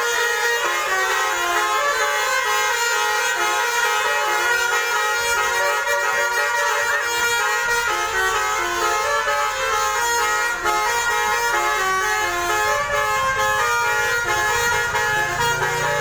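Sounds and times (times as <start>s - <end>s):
multi-tone air horn tune: 0.0s - 16.0s.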